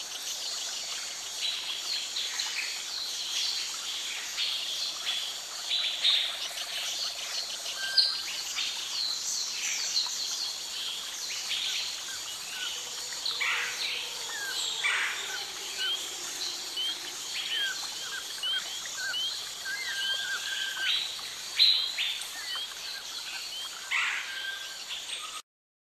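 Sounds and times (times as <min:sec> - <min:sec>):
steady background hiss: 0:00.0 - 0:25.4
birds chirping and trilling: 0:04.5 - 0:25.4.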